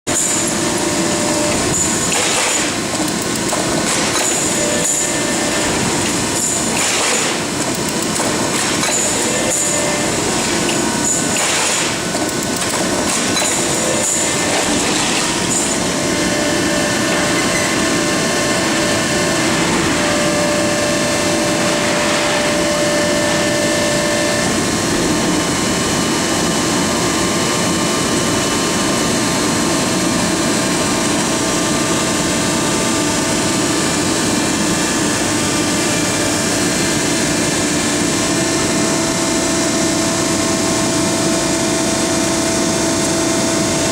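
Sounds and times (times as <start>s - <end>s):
industrial machine hum: 0.1s - 43.9s.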